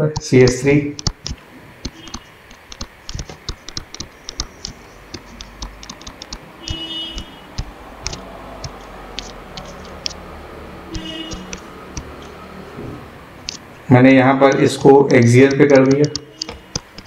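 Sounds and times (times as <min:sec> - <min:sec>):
stylus tapping on tablet: 0:00.1 - 0:12.4, 0:13.4 - 0:13.6, 0:14.4 - 0:17.0
pen scraping: 0:00.5 - 0:10.2, 0:10.9 - 0:12.4, 0:14.5 - 0:17.0.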